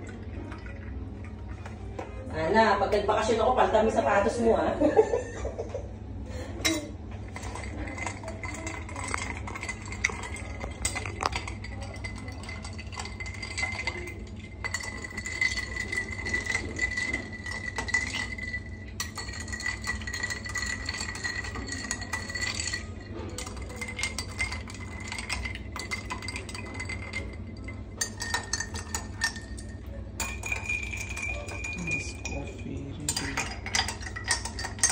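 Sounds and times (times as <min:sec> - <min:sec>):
spoon clinking glasses and ice: 0:06.6 - 0:34.9.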